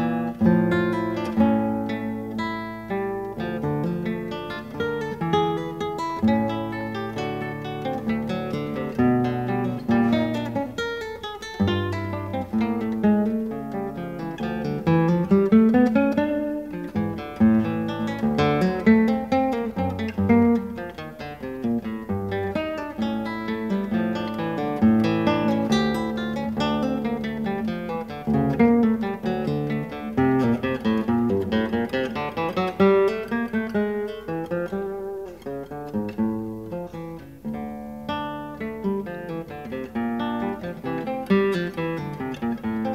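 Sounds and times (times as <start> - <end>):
acoustic guitar music: 0.0 - 42.9.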